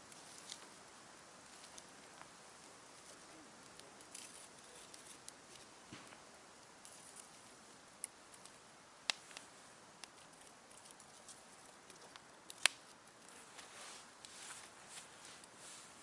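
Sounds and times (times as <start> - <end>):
campfire crackling and popping: 0.0 - 15.6
faint steady hiss: 0.0 - 16.0.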